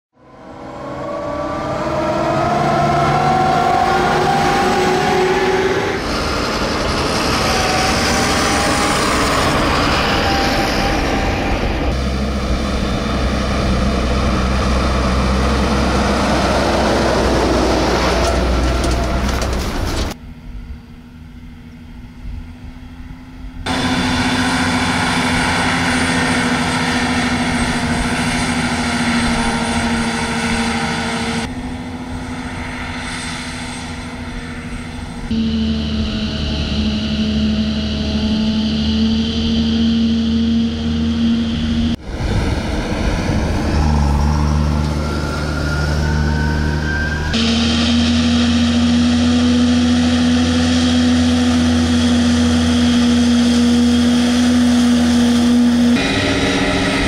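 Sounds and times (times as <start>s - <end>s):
diesel tractors running: 0.2s - 57.0s
forage harvester droning hum: 0.2s - 57.0s
tractor rumble passing: 0.2s - 57.0s.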